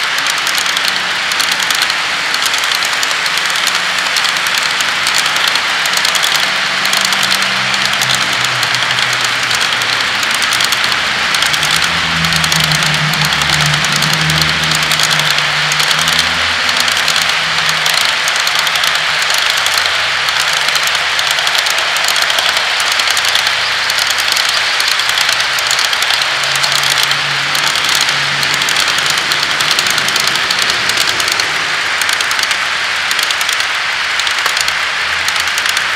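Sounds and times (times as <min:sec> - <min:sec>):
model train wheels clicking on track: 0:00.0 - 0:35.9.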